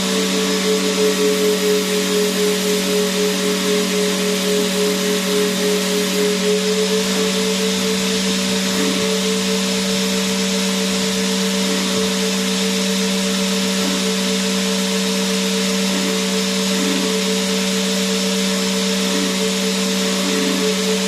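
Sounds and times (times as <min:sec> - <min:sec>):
vacuum cleaner motor running: 0:00.0 - 0:21.0.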